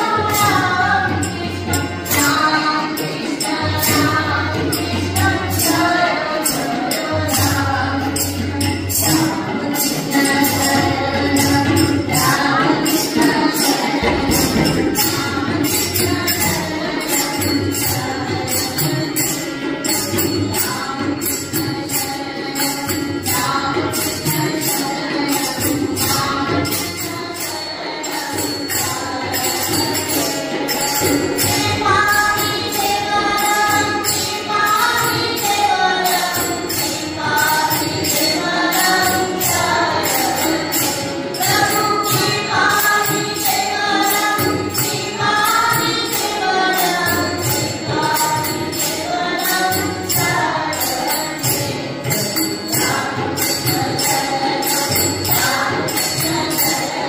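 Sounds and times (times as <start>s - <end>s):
group devotional singing: 0.0s - 57.0s
jingling percussion beat: 0.0s - 57.0s.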